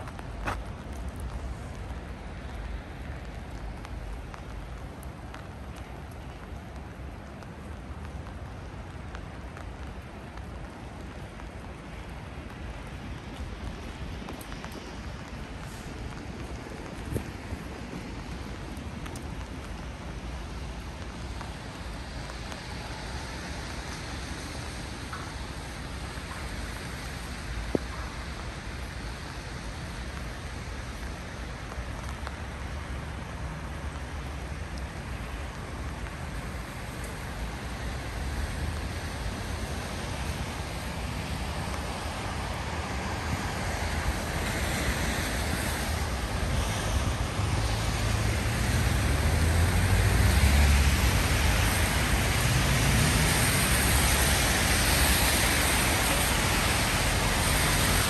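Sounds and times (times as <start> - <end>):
rain on a street: 0.0 - 58.0
traffic on a wet road: 0.0 - 58.0.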